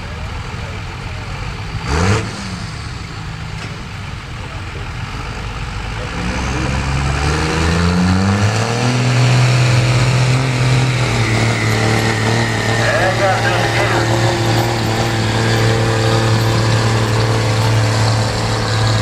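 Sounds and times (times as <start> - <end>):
truck engine revving hard: 0.0 - 3.8, 4.7 - 19.0.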